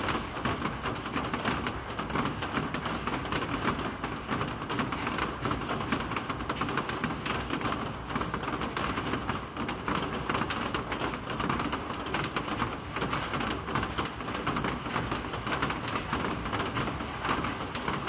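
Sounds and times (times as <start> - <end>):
raindrops hitting a surface: 0.0 - 18.0
steady rain falling: 0.0 - 18.0.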